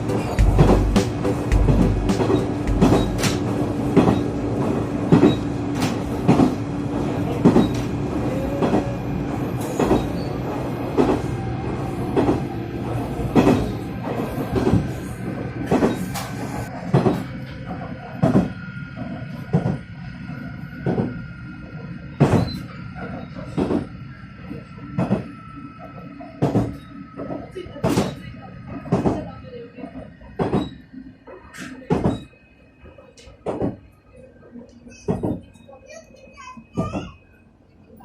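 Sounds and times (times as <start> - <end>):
train wheels clickety-clack: 0.0 - 21.2, 22.1 - 37.2
train running rumble: 0.0 - 38.0.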